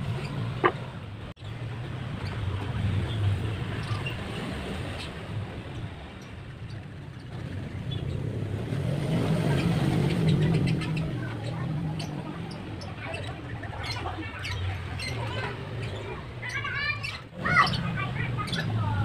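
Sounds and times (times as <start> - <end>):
distant vehicle engine hum: 0.0 - 19.0.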